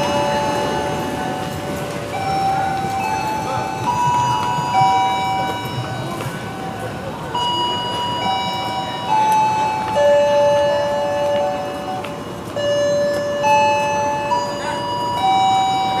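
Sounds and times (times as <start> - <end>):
electronic station chime melody: 0.0 - 16.0.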